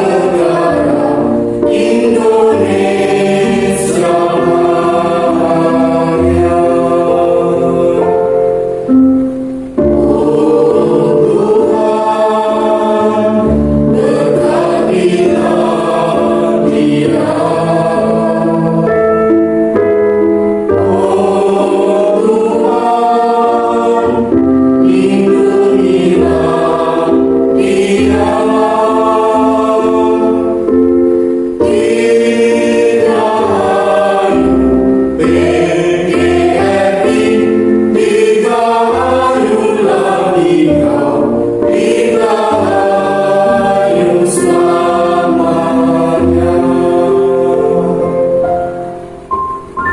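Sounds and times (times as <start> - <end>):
children's choir singing: 0.0 - 49.9.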